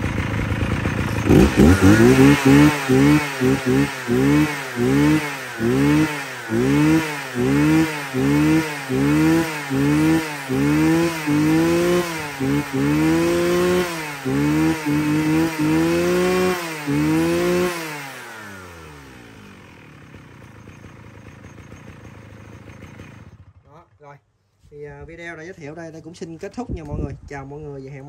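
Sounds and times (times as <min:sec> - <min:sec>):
brush cutter engine revving: 0:00.0 - 0:23.7.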